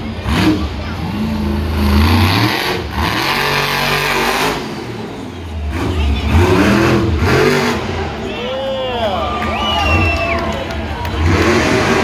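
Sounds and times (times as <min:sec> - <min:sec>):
truck engine revving: 0:00.0 - 0:08.4, 0:09.4 - 0:12.0.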